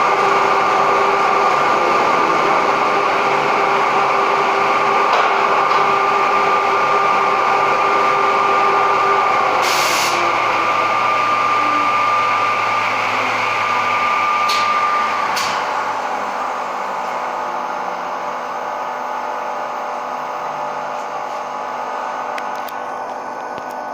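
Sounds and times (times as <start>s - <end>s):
machine whine and hum: 0.0s - 23.9s.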